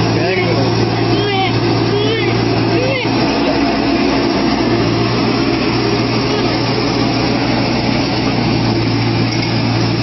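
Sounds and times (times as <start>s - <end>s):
large engine droning: 0.0s - 10.0s.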